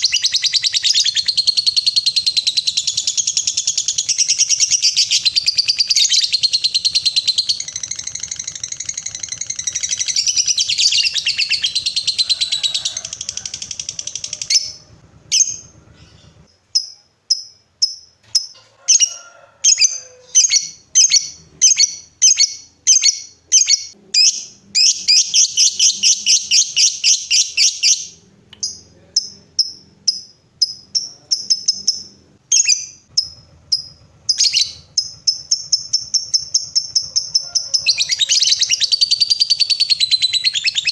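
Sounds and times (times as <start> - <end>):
bird chattering trill: 0.0 - 19.1, 19.7 - 40.9
sharp bird chirps: 0.0 - 19.1, 19.7 - 40.9.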